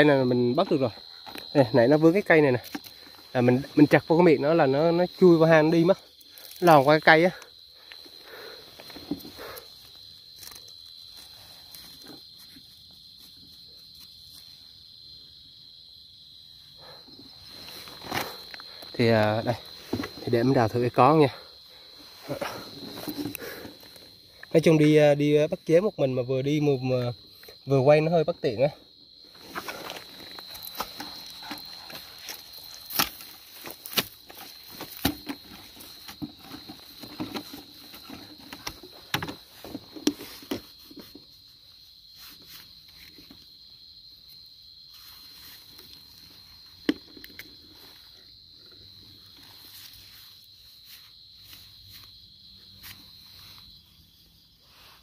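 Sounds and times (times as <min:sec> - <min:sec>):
high insect trill: 0:00.0 - 0:55.0.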